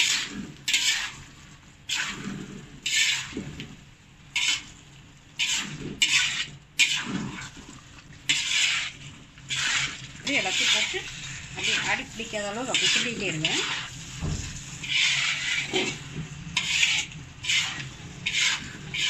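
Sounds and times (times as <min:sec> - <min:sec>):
utensil scraping in a pan: 0:00.0 - 0:19.0.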